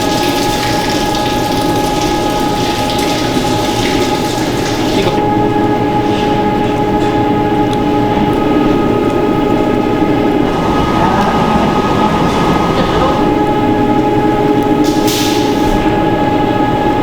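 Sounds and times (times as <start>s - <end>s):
machinery humming with whining tones: 0.0s - 17.0s.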